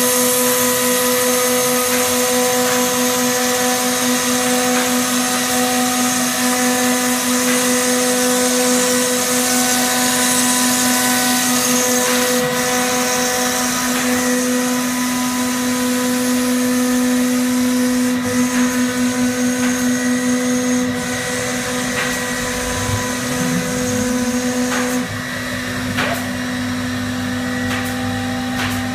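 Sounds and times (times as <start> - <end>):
router spindle whining: 0.0 - 25.8.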